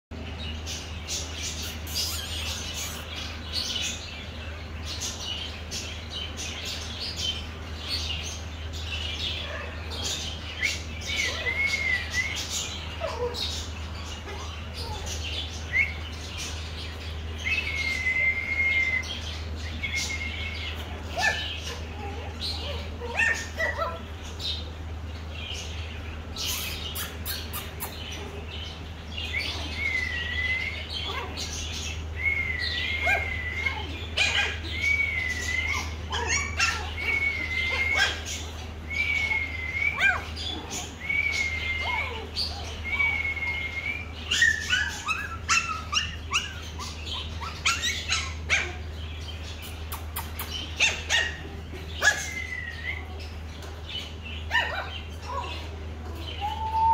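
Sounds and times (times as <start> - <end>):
puppies yapping: 0.7 - 4.2, 4.9 - 25.1, 25.7 - 56.9.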